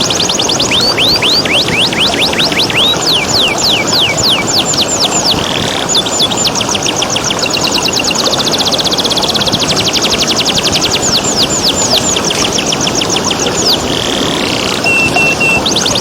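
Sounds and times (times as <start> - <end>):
canary singing: 0.0 - 16.0
flowing water rushing: 0.0 - 16.0.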